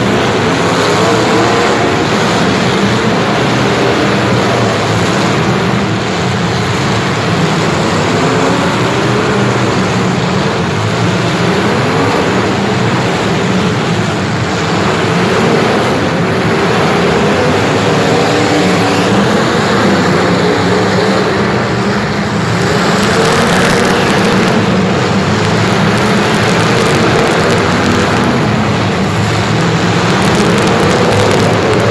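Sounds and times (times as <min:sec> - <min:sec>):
motor engines running: 0:00.0 - 0:31.9.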